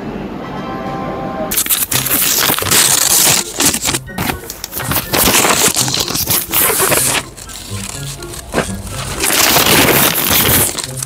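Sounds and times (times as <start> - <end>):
paper crinkling and rustling: 1.5 - 11.0.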